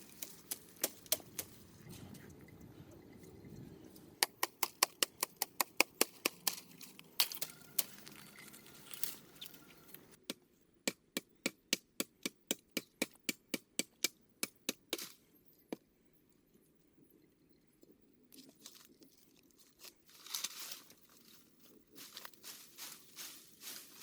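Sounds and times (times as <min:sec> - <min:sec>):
background noise: 0:00.0 - 0:24.0.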